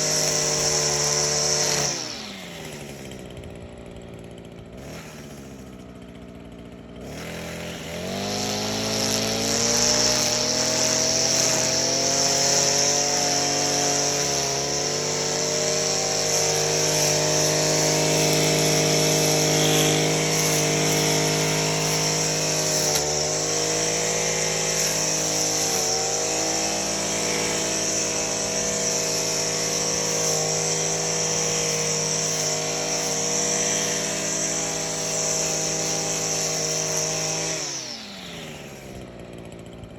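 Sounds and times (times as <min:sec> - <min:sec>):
string trimmer engine revving: 0:00.0 - 0:39.9.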